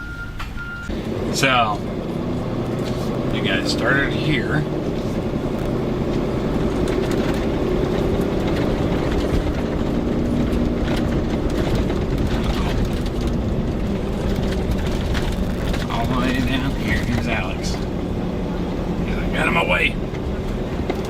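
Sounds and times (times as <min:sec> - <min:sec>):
road noise: 0:00.0 - 0:21.0
vehicle engine drone: 0:00.0 - 0:21.0.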